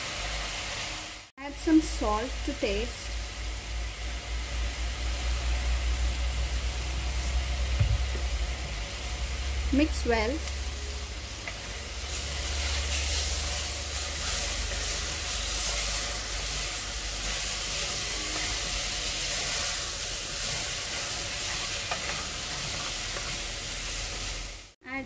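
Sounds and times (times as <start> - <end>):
food sizzling in oil: 0.0 - 24.8.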